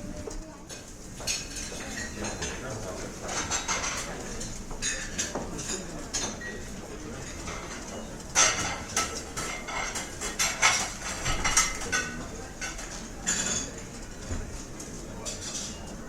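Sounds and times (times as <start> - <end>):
low background murmur: 0.0 - 16.0
cutlery and dishes clinking: 0.7 - 16.0.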